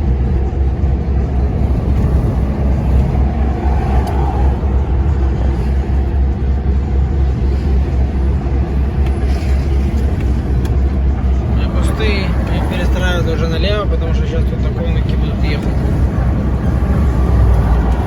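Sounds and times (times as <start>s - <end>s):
road noise: 0.0s - 18.0s
truck diesel engine droning: 0.0s - 18.0s.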